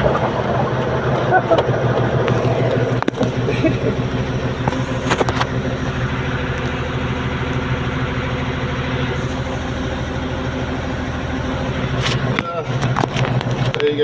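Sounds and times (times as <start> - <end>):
machine engine running: 0.0 - 14.0.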